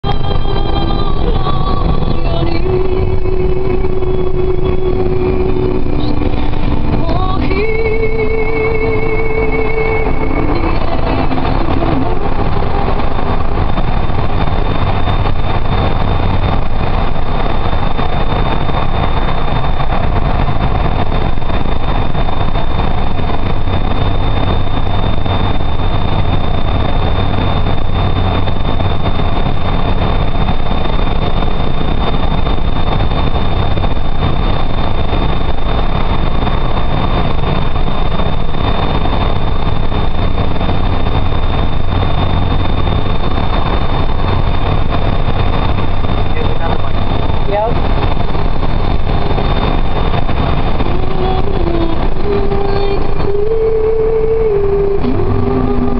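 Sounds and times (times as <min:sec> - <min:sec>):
engine and tyre rumble: 0:00.0 - 0:55.9
thin high whine: 0:00.0 - 0:55.9.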